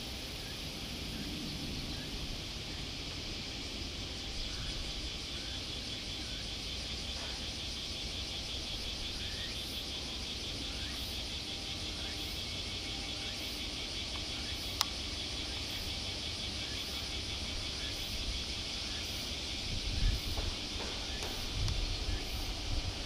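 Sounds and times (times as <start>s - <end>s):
insects shrilling: 0.0s - 23.0s.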